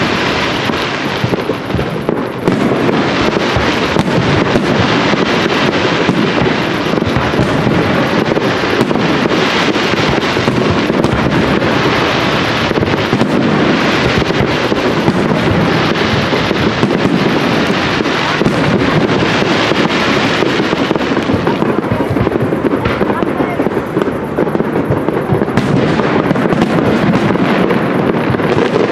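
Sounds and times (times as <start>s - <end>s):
continuous rumble: 0.0s - 28.9s
firework shells bursting: 0.0s - 28.9s
fireworks bangs and crackles: 0.0s - 28.9s.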